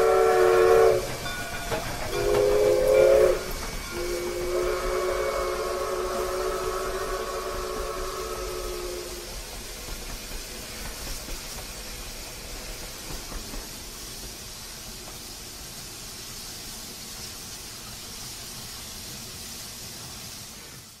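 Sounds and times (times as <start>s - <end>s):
steady hissing noise: 0.0s - 21.0s.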